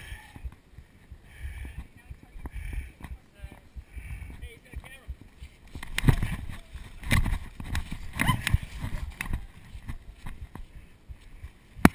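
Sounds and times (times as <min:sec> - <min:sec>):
runners' footsteps on leafy trail: 0:00.0 - 0:11.8.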